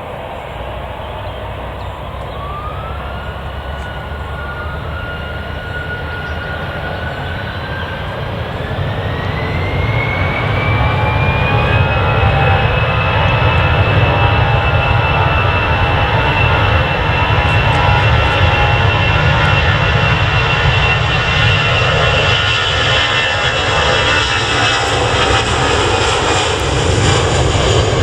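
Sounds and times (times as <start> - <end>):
jet engines spooling up: 0.0 - 28.0.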